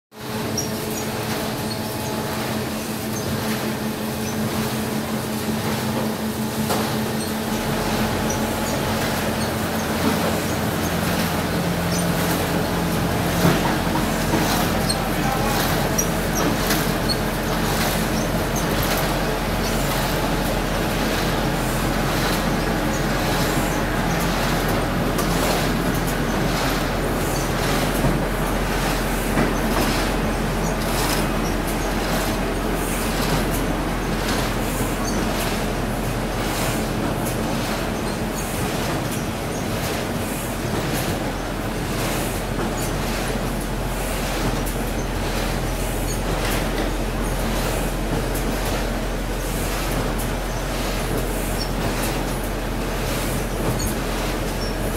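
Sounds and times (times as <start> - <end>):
machine mechanical hum: 0.1 - 54.9.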